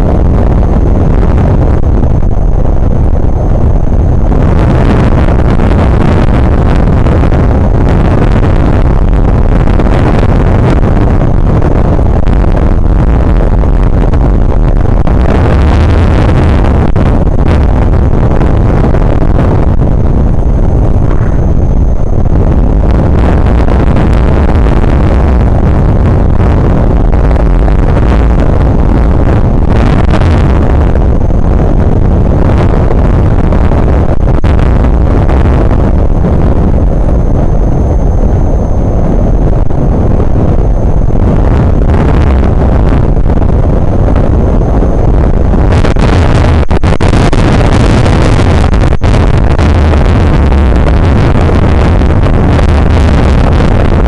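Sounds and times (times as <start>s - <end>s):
wind hitting microphone: 0.0s - 54.0s.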